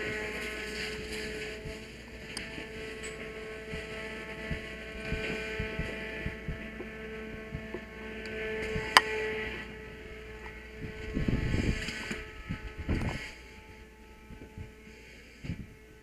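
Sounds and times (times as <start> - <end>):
machine hum with high tone: 0.0 - 16.0.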